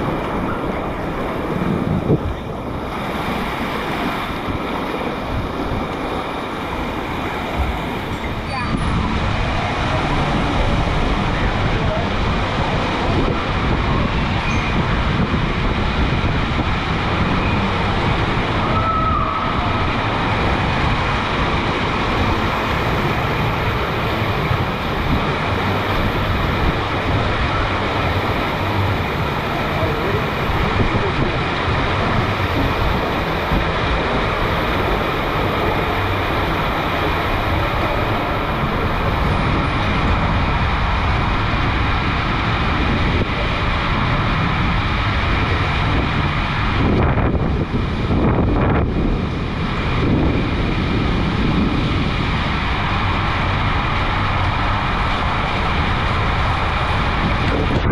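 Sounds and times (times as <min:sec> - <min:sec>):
water rushing down a tube slide: 0:00.0 - 0:57.9.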